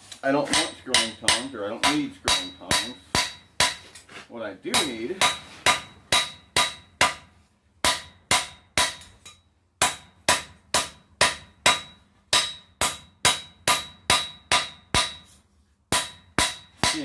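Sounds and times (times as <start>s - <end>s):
hammer striking steel on anvil: 0.4s - 3.8s, 4.7s - 17.0s.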